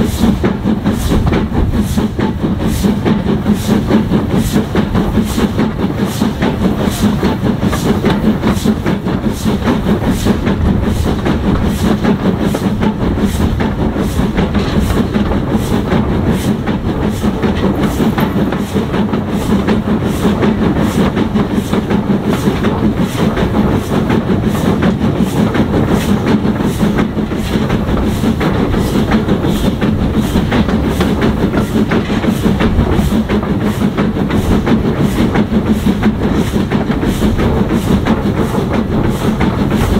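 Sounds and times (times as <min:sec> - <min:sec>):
regular clicking of rails: 0:00.0 - 0:39.9
train wheels rumbling on track: 0:00.0 - 0:39.9.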